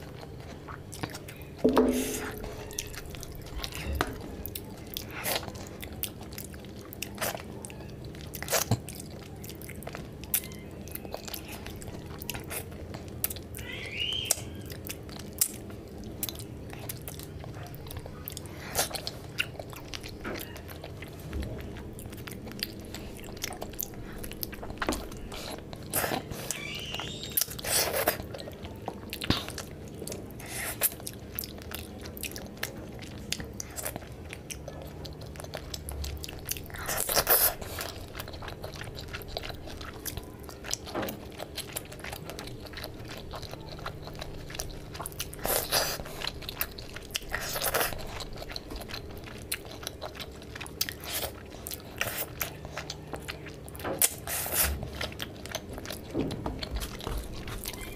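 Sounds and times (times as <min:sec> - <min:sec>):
person chewing and mouth smacking: 0:00.0 - 0:57.9.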